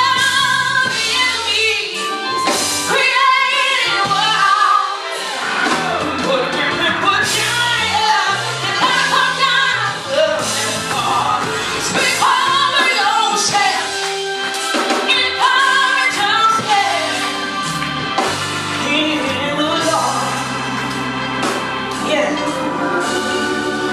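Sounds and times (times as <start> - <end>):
band accompaniment with bass: 0.0 - 23.9
gospel singing: 0.0 - 23.9.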